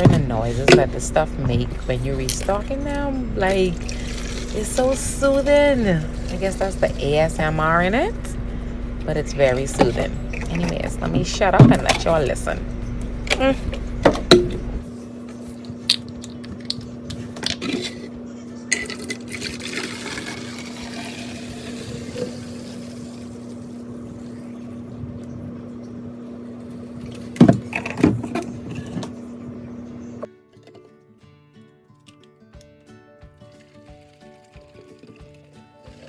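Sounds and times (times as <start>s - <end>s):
groceries and containers handled: 0.0s - 23.4s, 26.3s - 31.0s, 33.2s - 36.0s
steady low hum: 0.0s - 30.3s.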